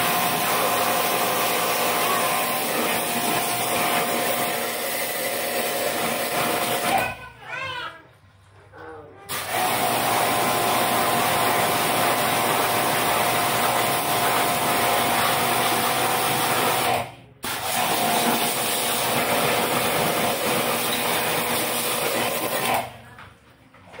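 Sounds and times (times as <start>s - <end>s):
pressure washer water jet hissing: 0.0s - 7.0s, 9.3s - 22.8s.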